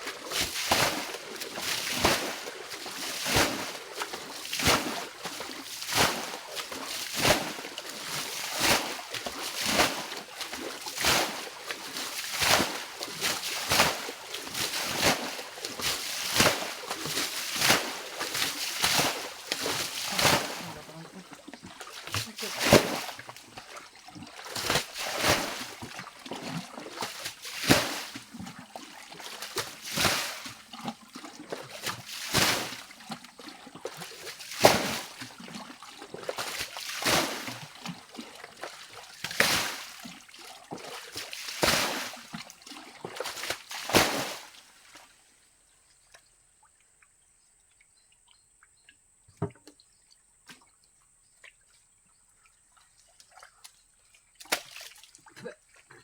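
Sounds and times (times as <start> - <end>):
splash of flung water: 0.0 - 33.1, 33.8 - 45.1, 54.4 - 55.3.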